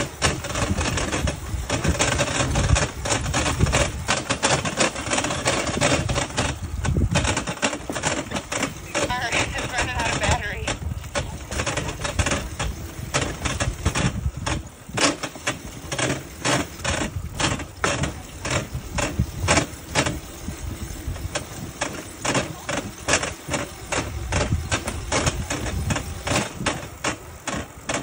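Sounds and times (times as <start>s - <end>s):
steel wheels rumbling on rails: 0.0s - 28.0s
wheels and frame clacking: 0.0s - 28.0s.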